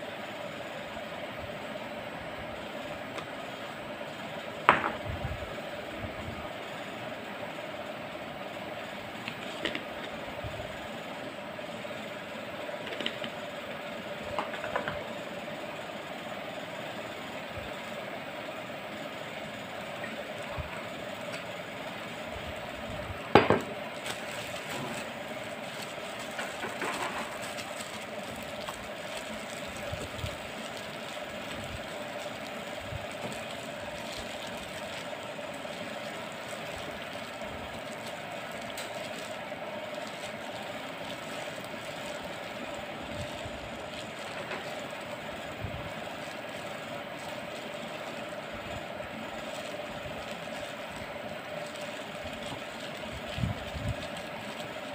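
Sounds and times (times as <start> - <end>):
steady mechanical hum: 0.0 - 54.9
plastic glove rustling: 8.6 - 15.6, 16.3 - 54.9.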